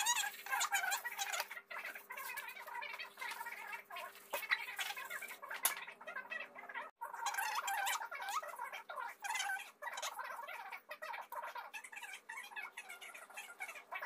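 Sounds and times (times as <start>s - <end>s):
bird-like chirping and chattering: 0.0s - 14.0s.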